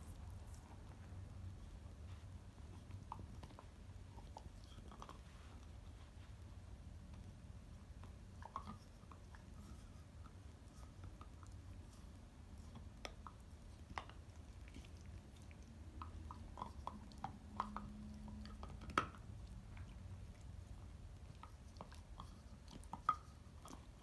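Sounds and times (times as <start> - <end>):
dog gnawing a hard chew: 0.0 - 5.8, 7.8 - 24.0.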